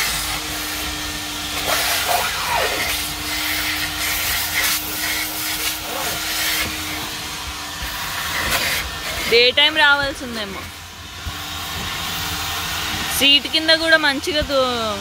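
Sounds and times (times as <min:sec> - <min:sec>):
hose hissing: 0:00.0 - 0:15.0
machine hum: 0:00.0 - 0:15.0.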